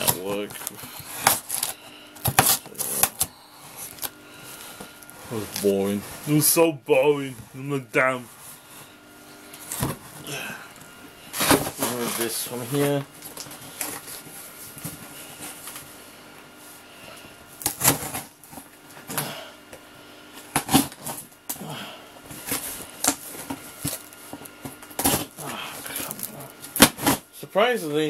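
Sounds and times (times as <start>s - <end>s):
faint electrical whine: 0.0s - 28.0s.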